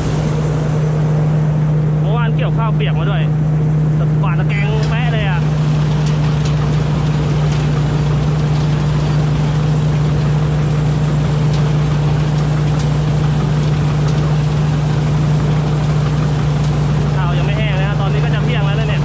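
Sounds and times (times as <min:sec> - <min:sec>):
combine harvester engine humming: 0:00.0 - 0:02.2, 0:04.6 - 0:19.0.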